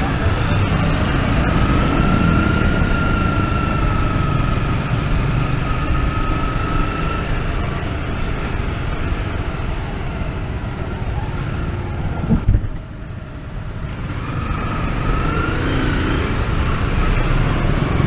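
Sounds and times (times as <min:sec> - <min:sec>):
motorcycle engine rumble: 0:00.0 - 0:15.3
wind and road noise: 0:00.0 - 0:18.0.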